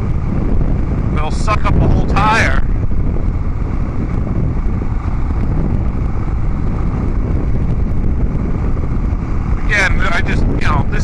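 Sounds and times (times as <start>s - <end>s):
motorcycle exhaust note: 0.0s - 11.0s
wind buffeting microphone: 0.0s - 11.0s.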